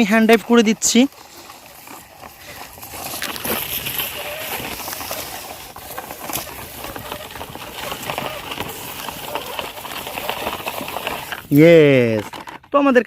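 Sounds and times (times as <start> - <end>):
toy truck rustling through plants: 0.0 - 13.0.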